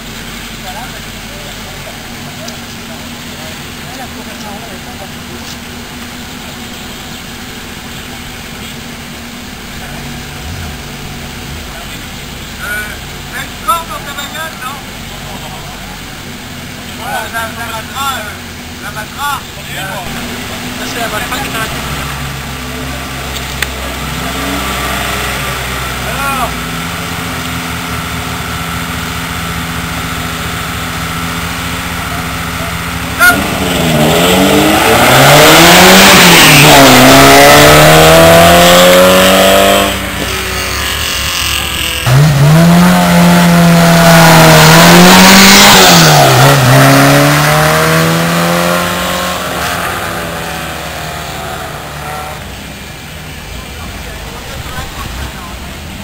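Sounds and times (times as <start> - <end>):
car engine revving at full throttle: 0.0 - 56.0
second race car engine: 0.0 - 56.0.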